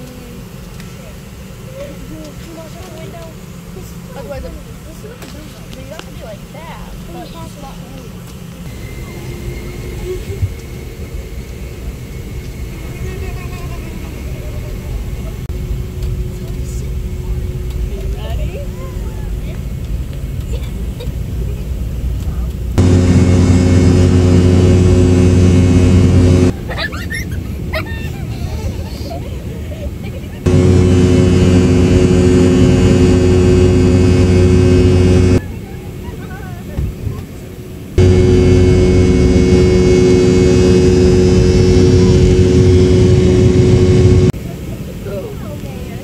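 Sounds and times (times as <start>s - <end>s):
low cabin rumble: 0.0s - 35.4s, 37.9s - 44.4s
airliner engine drone: 0.0s - 36.6s, 37.5s - 45.0s.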